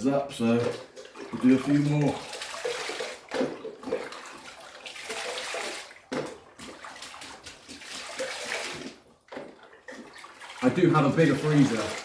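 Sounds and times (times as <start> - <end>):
ice water splashing and pouring: 0.5 - 12.0.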